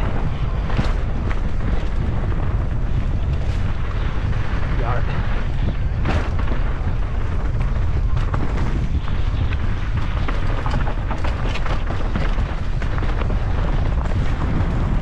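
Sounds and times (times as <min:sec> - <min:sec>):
bike clicks and rattles: 0:00.0 - 0:15.0
tyres rumbling over dirt: 0:00.0 - 0:15.0
wind buffeting microphone: 0:00.0 - 0:15.0.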